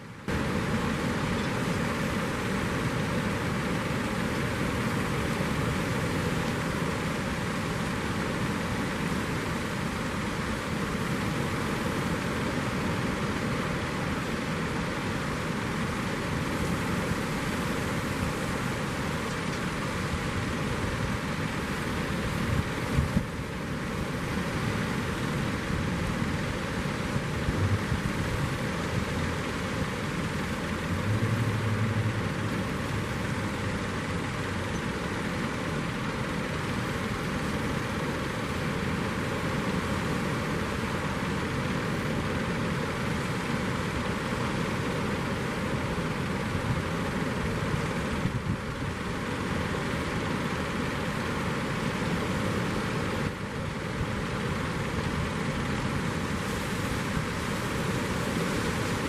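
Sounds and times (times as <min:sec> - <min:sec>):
ocean surf breaking: 0:00.3 - 0:47.5, 0:54.5 - 0:59.0.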